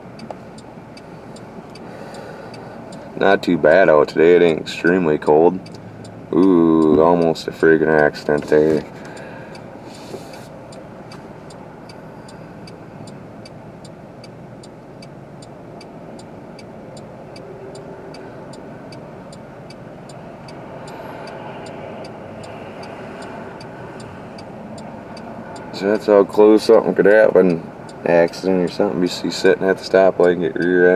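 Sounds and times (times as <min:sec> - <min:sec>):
car cabin hum: 0:00.0 - 0:30.9
turn signal ticking: 0:00.0 - 0:30.9.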